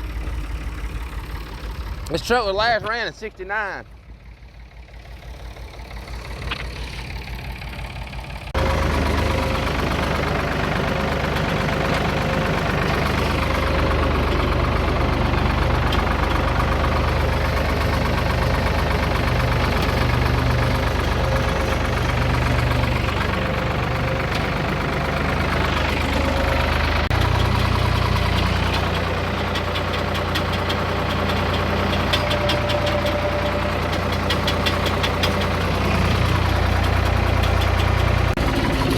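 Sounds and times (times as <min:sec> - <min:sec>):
vehicle engine under load: 0:00.0 - 0:38.9.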